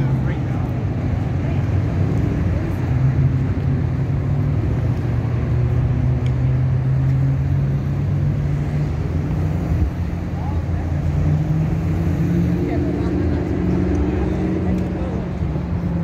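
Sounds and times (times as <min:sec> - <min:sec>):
traffic hum: 0:00.0 - 0:16.0
vehicles idling: 0:00.0 - 0:16.0.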